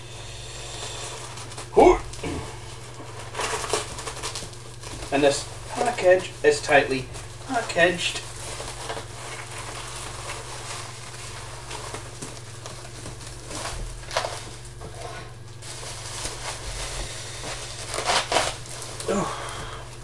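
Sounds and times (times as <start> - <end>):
steady low hum: 0.0 - 20.0
packing tape crackling: 0.7 - 14.8, 15.5 - 20.0.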